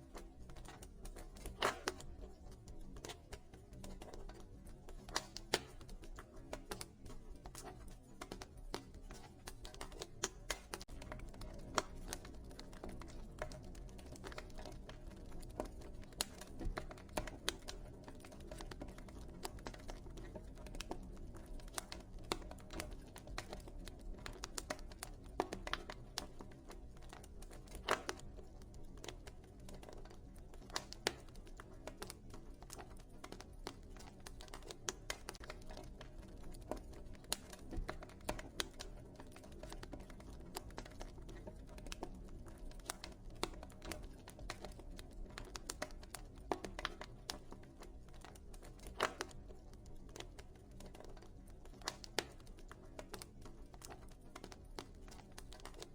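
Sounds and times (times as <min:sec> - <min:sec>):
logs crackling and popping: 0:00.0 - 0:55.9.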